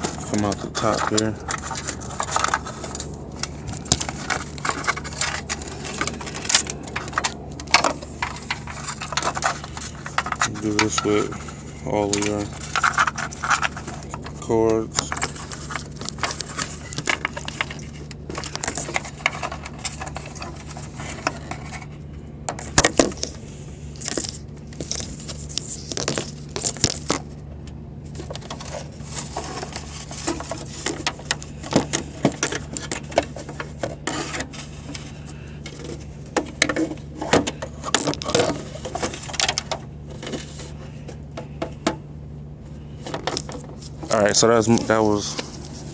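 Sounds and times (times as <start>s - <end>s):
wires and plastic connectors handled: 0.0s - 42.0s, 42.7s - 45.9s.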